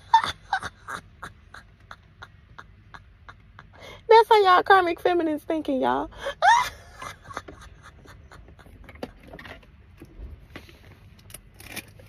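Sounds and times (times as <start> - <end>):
low car interior hum: 0.0 - 12.0.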